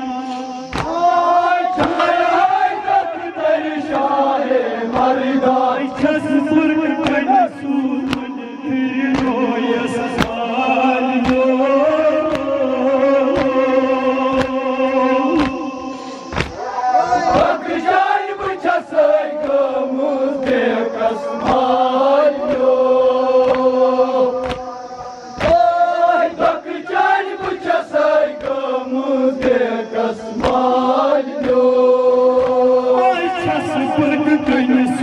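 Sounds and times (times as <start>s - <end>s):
lead reciter on microphone: 0.0s - 35.0s
men chanting over loudspeakers: 0.0s - 35.0s.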